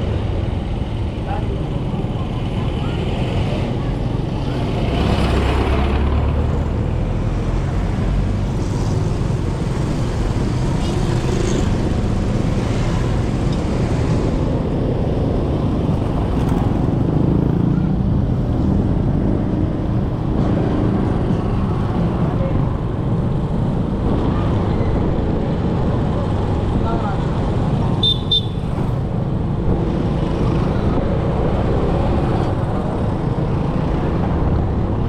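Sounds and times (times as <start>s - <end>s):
surrounding traffic: 0.0s - 35.0s.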